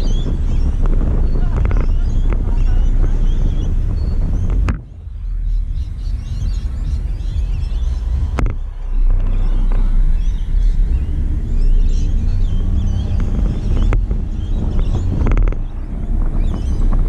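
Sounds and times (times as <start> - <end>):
low road rumble: 0.0 - 17.0
wind buffeting microphone: 0.0 - 17.0.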